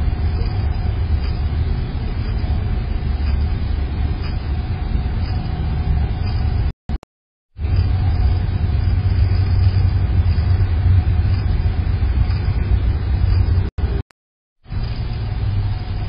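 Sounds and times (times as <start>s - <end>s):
low outdoor rumble with hiss: 0.0s - 6.7s, 7.6s - 14.0s, 14.7s - 16.0s.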